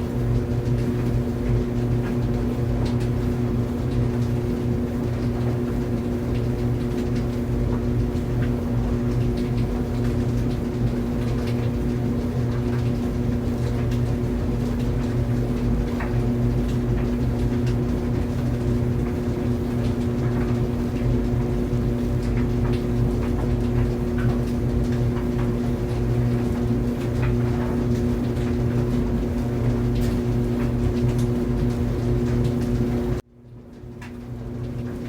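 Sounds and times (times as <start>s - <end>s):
clothes dryer humming: 0.0s - 35.0s.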